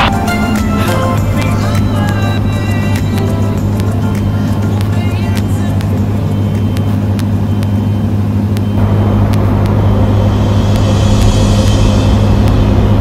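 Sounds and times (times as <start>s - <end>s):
cabin air noise: 0.0s - 13.0s
light aircraft engine droning: 0.0s - 13.0s.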